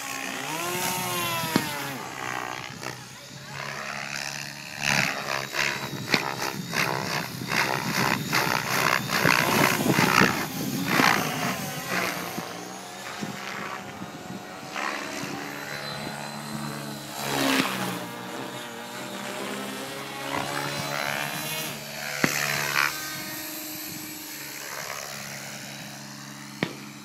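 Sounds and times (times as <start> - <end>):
helicopter rotor blades whooshing: 0.0 - 27.0
thin motor whine: 0.0 - 27.0.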